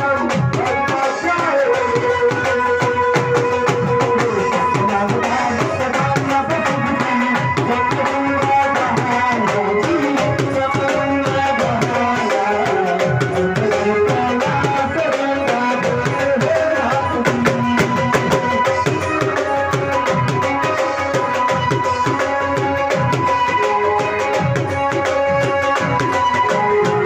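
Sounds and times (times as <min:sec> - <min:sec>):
electronic keyboard melody: 0:00.0 - 0:27.0
tabla-style percussion beat: 0:00.0 - 0:27.0.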